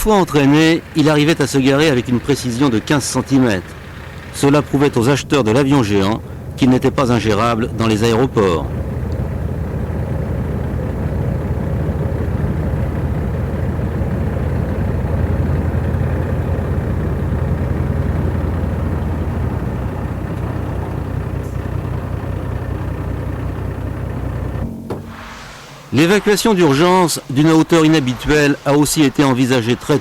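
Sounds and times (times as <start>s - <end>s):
heavy vehicle engine droning: 0.0s - 30.0s.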